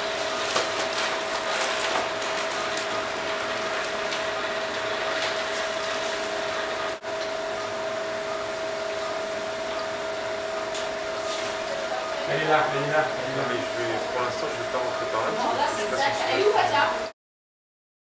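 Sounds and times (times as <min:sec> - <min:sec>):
steady equipment hiss: 0:02.0 - 0:17.0.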